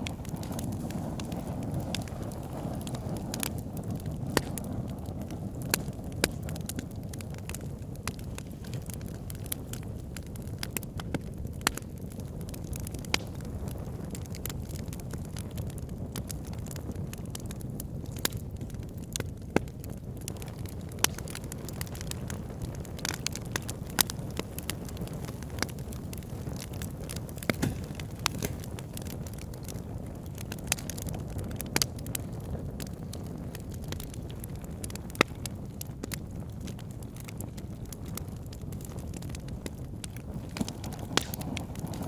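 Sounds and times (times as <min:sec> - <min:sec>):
fire crackling and popping: 0:00.0 - 0:42.0
flames rumbling: 0:00.0 - 0:42.0.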